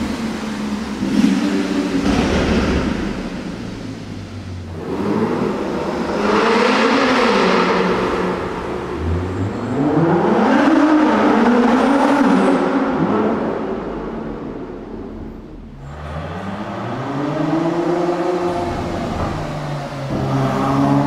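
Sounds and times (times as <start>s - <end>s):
car engine accelerating through gears: 0.0s - 21.0s.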